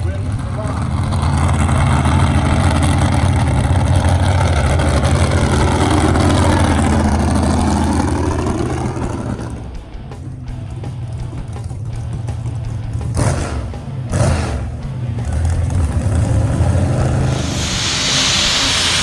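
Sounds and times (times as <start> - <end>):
engine running hard under load: 0.0 - 19.0.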